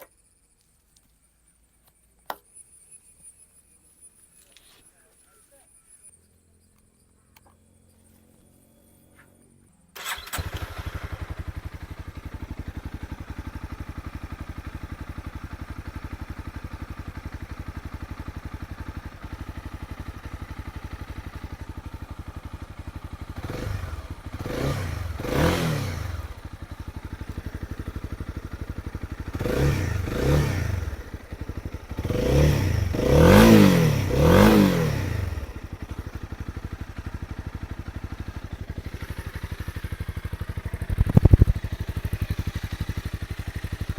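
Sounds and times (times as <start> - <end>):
motorcycle engine idling: 5.0 - 43.9
motorcycle engine revving: 7.4 - 43.9.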